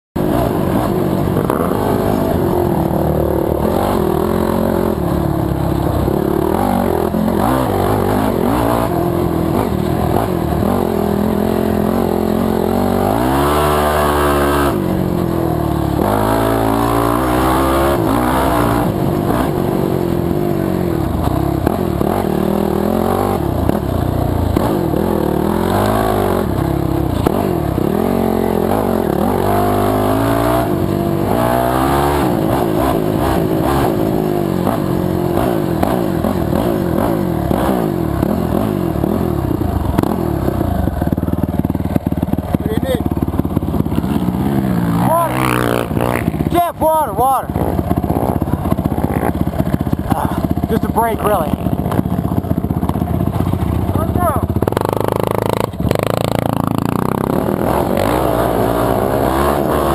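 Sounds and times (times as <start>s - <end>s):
atv engine revving: 0.2s - 59.9s.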